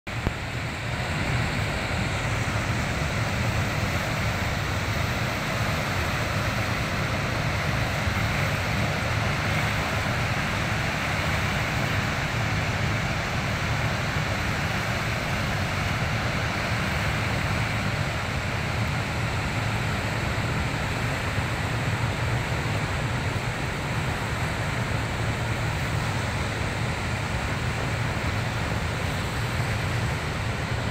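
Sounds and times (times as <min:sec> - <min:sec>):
deep rumble of churning water: 0:00.1 - 0:30.9
floodwater rushing through spillway: 0:00.1 - 0:30.9.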